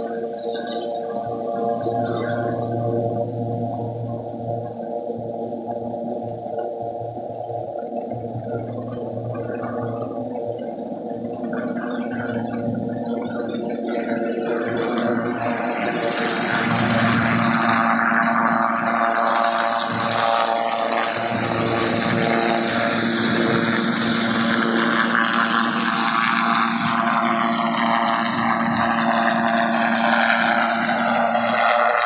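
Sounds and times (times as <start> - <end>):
helicopter engine and rotor noise: 0.0 - 32.0.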